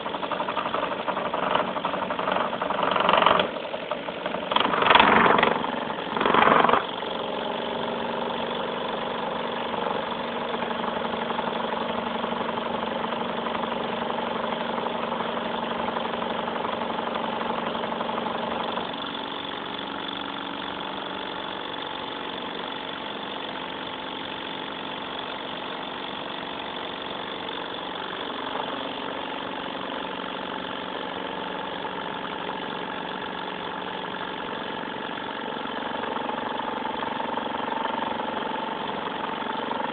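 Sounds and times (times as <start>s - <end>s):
engine mechanical hum: 0.0s - 39.9s.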